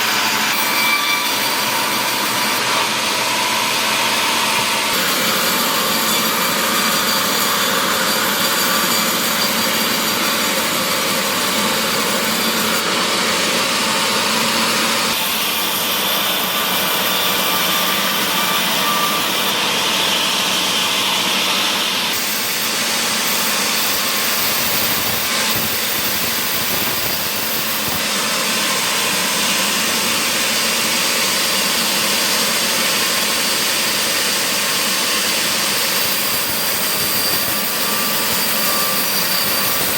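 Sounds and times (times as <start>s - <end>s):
woodworking machinery running: 0.0s - 39.9s.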